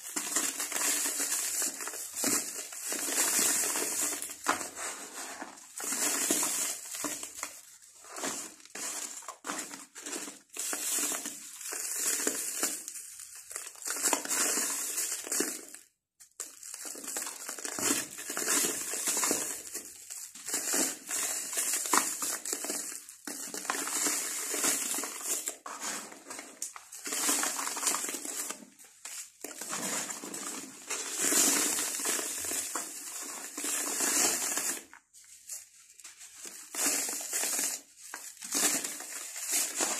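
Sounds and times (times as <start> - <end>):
gritty crunching by hand: 0.0 - 15.7, 16.4 - 35.6.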